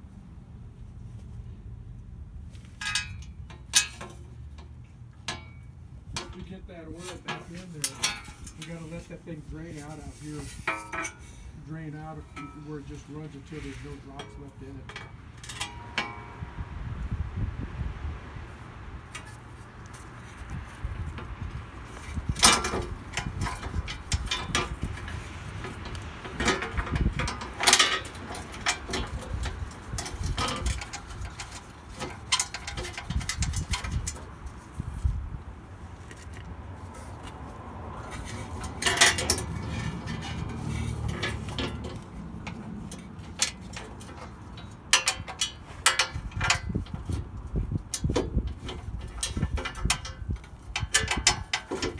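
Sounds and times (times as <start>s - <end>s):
low steady rumble: 0.0s - 51.9s
metal tools clinking: 2.8s - 4.7s, 5.3s - 16.5s, 21.5s - 35.1s, 35.8s - 37.4s, 38.0s - 51.9s.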